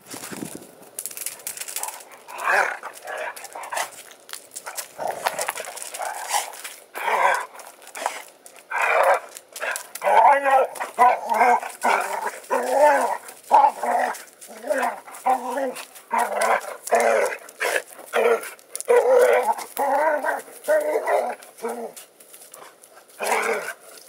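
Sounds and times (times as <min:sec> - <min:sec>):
dog barking and growling in play: 0:01.7 - 0:24.0.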